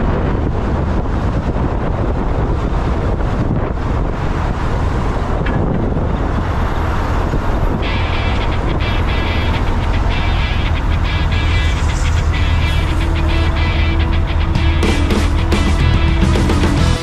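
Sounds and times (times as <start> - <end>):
motorcycle engine and road noise: 0.0 - 17.0
wind buffeting microphone: 0.0 - 17.0.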